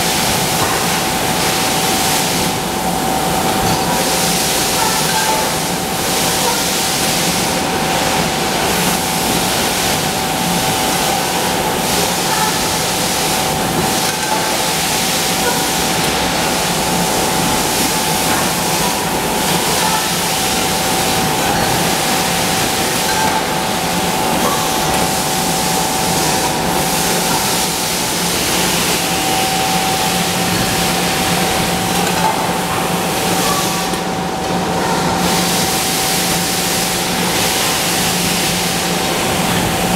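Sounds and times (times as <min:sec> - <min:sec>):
factory machinery noise: 0:00.0 - 0:39.9.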